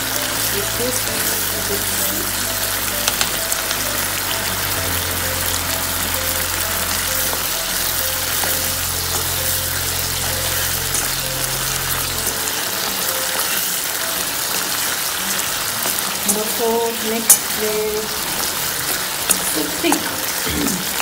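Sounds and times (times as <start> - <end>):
mushrooms sizzling in frying pan: 0.0 - 21.0
soft background music: 0.0 - 21.0.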